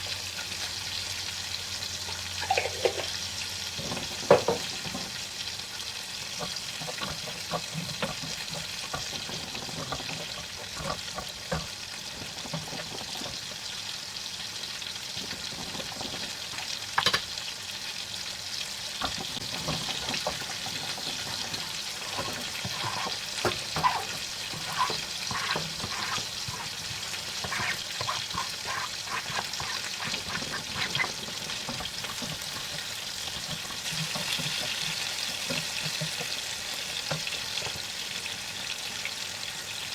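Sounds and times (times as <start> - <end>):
food sizzling in a frying pan: 0.0 - 39.9
utensil scraping a pan: 2.4 - 13.7, 15.1 - 17.2, 19.0 - 37.8.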